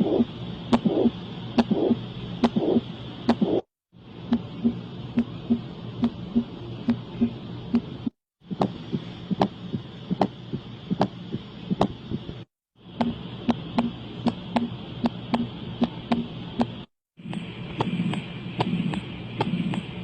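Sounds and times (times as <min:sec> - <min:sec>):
heartbeat through a stethoscope: 0:00.0 - 0:03.7, 0:04.3 - 0:12.4, 0:13.0 - 0:20.0.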